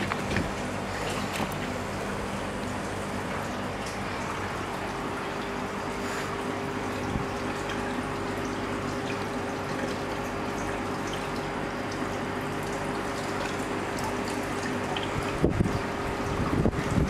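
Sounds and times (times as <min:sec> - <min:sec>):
low pump hum: 0:00.0 - 0:17.0
water trickling and splashing: 0:00.0 - 0:17.0
faint water drips: 0:01.8 - 0:17.0.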